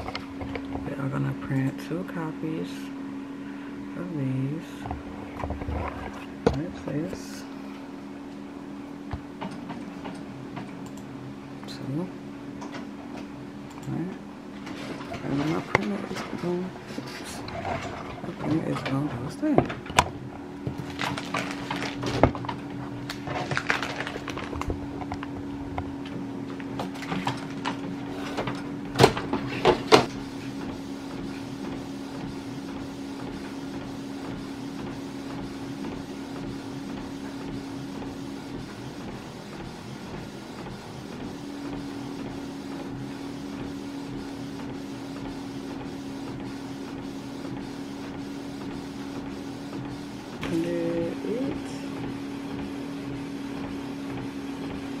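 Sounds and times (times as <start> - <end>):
printer mechanical hum: 0.0 - 55.0.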